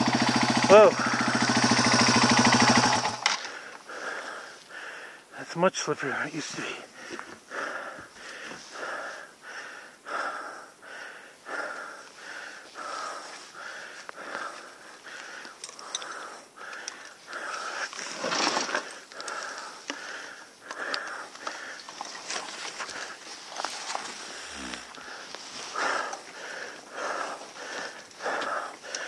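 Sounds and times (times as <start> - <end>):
heavy fast breathing: 0.0 - 5.4, 6.3 - 29.0.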